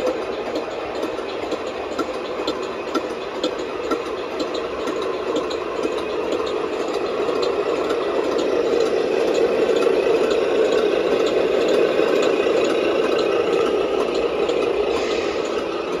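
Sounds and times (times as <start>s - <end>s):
model truck motor rattling: 0.0s - 16.0s.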